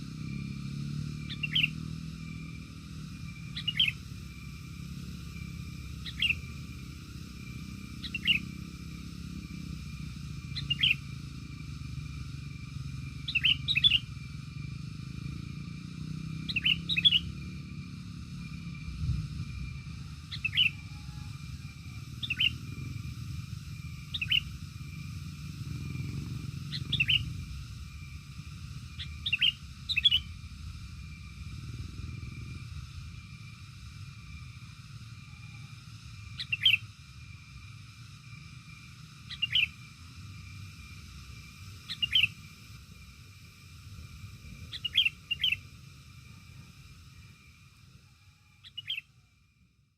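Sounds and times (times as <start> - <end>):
bird chirping: 0.1 - 32.6, 36.3 - 37.0, 39.2 - 42.6, 44.4 - 47.5, 48.5 - 49.2.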